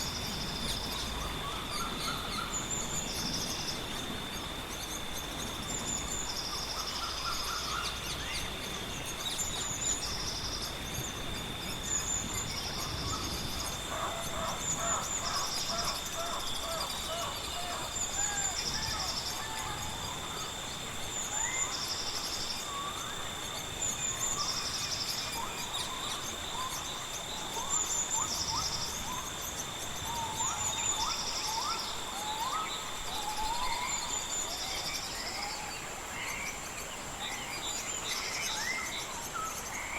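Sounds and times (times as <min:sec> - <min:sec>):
high insect-like whine: 0:00.0 - 0:39.9.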